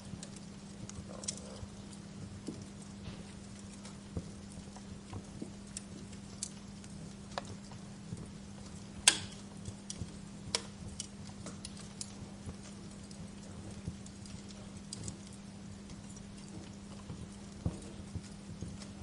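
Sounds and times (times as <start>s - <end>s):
bonfire crackling and popping: 0.0s - 19.0s
steady low hum: 0.0s - 19.0s.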